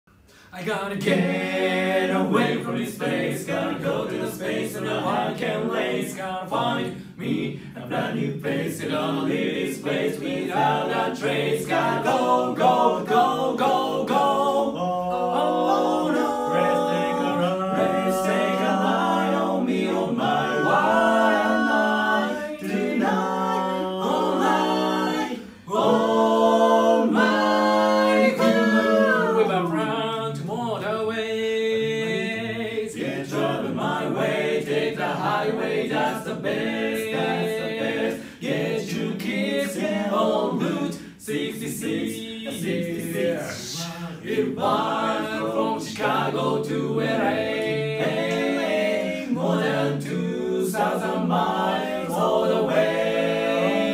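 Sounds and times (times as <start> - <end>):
male quartet singing harmony: 0.5 - 53.9.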